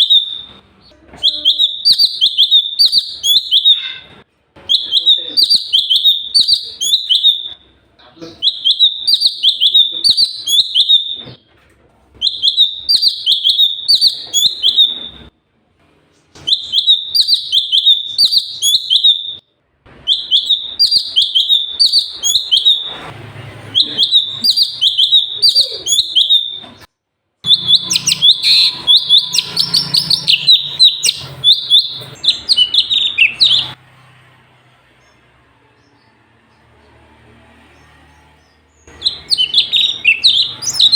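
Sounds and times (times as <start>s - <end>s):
songbird singing: 0.0s - 4.1s, 4.7s - 7.6s, 8.2s - 11.4s, 12.2s - 15.3s, 16.4s - 19.4s, 20.0s - 33.8s, 35.0s - 40.9s.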